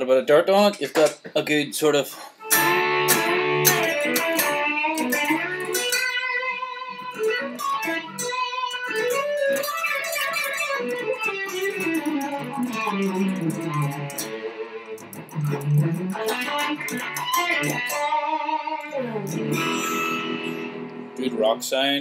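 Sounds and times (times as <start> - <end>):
overdriven electric guitar: 2.4 - 22.0.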